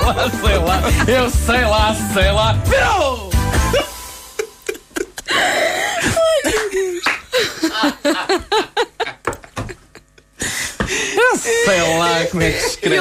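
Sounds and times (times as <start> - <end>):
people laughing: 0.0 - 1.5, 3.7 - 13.0.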